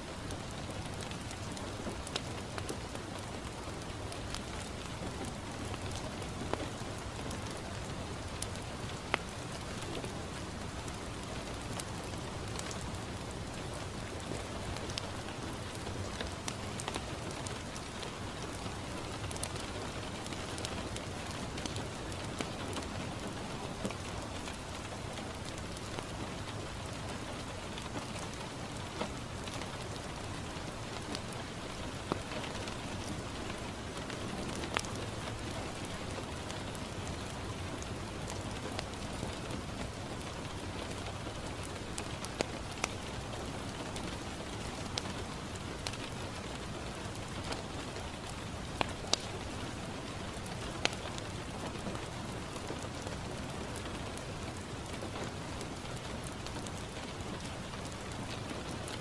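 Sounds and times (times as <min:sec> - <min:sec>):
rain on a window: 0:00.0 - 0:59.0
wood fire popping: 0:00.5 - 0:10.0, 0:10.8 - 0:59.0.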